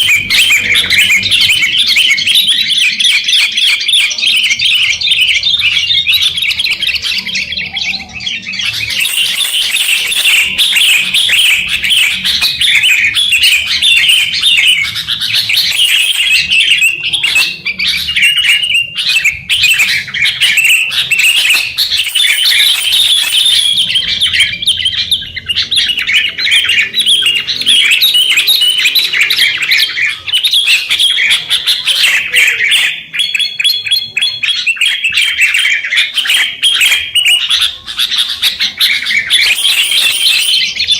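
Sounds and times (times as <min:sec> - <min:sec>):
birds chirping and twittering: 0:00.0 - 0:40.9.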